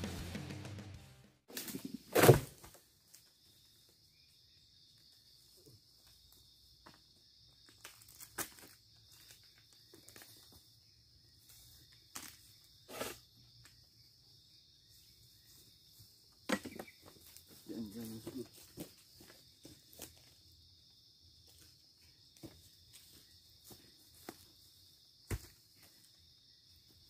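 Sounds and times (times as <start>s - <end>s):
insects buzzing: 1.6s - 27.0s.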